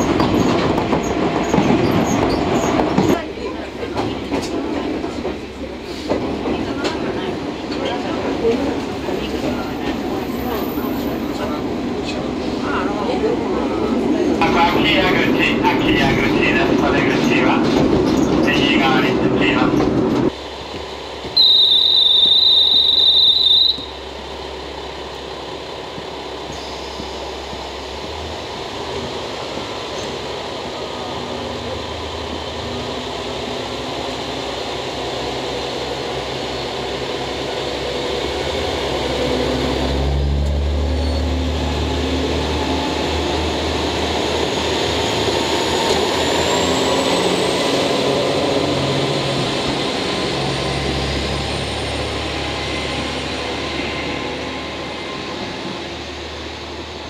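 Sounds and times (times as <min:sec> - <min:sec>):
diesel railcar rumbling: 0:00.0 - 0:57.0.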